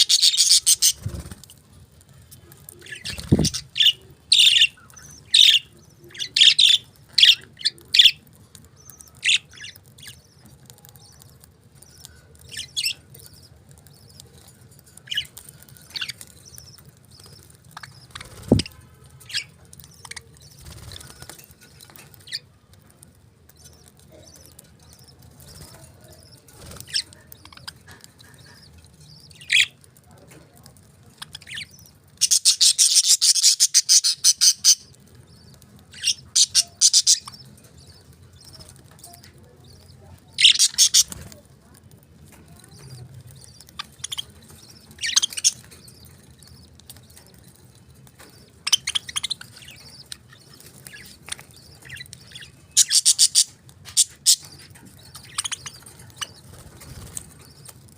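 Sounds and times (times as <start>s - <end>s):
budgies chirping: 0.0s - 1.6s, 2.2s - 57.9s.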